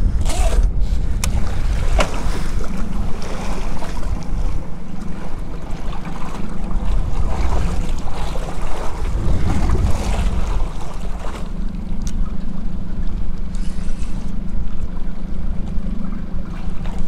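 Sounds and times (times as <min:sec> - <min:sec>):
waves washing against boat hull: 0:00.0 - 0:17.0
wind buffeting microphone: 0:00.0 - 0:17.0.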